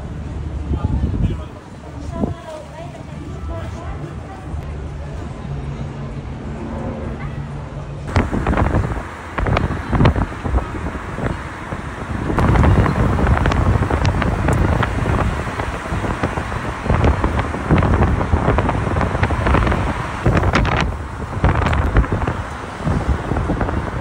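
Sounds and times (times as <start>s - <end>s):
wind buffeting microphone: 0.0s - 5.4s, 8.0s - 24.0s
low road rumble: 0.0s - 24.0s.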